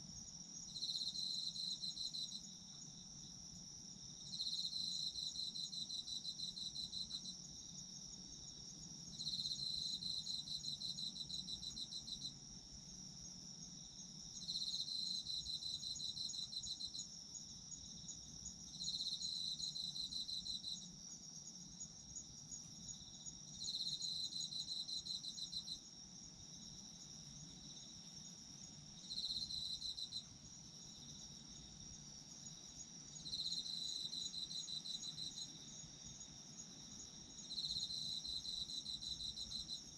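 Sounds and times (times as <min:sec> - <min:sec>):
rapid pulsed insect trill: 0:00.0 - 0:39.9
steady high insect trill: 0:00.0 - 0:39.9.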